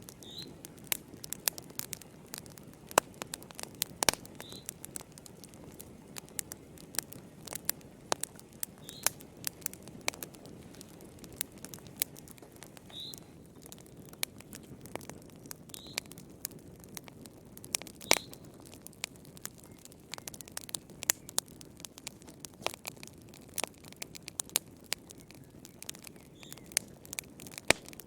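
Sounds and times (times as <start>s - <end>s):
burning logs crackling and popping: 0.0s - 28.0s
low rumble of flame: 0.0s - 28.0s.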